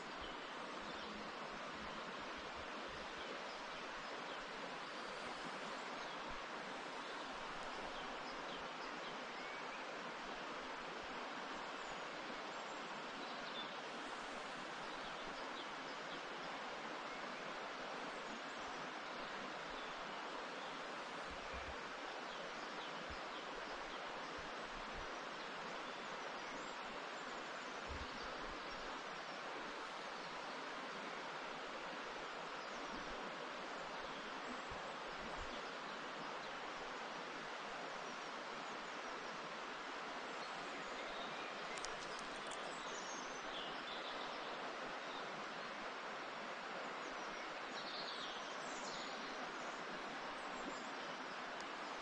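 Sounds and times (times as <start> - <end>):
forest ambience rushing hiss: 0.0 - 52.0.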